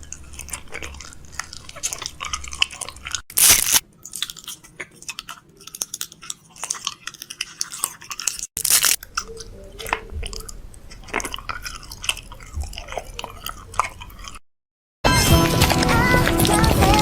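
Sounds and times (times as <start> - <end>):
crunching and chewing: 0.0 - 14.4, 15.1 - 17.0.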